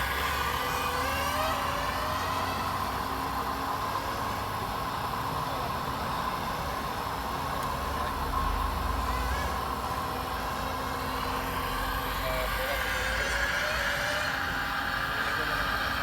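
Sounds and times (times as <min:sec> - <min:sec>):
toy truck motor drone: 0:00.0 - 0:16.0.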